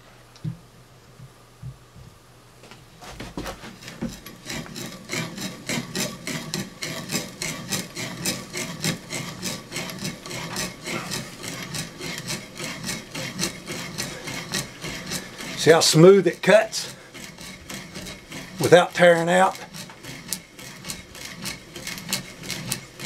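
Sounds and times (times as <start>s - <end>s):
bit brace boring into wood: 3.3s - 23.0s.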